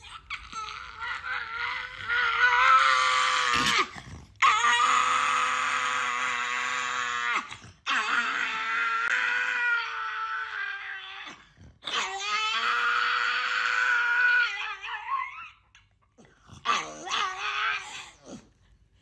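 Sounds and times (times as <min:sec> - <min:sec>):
dog howling: 0:00.0 - 0:15.7, 0:16.7 - 0:18.5.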